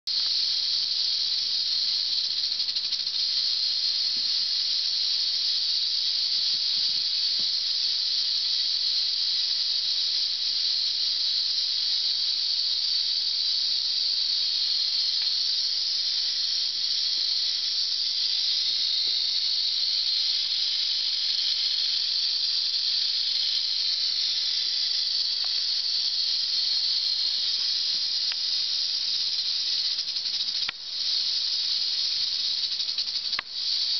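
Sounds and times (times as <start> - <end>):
rattlesnake rattling: 0.1 - 33.9.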